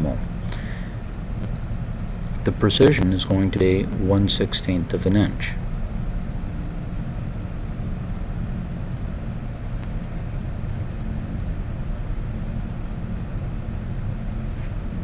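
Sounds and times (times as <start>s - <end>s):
microphone background rumble and hiss: 0.0s - 15.0s.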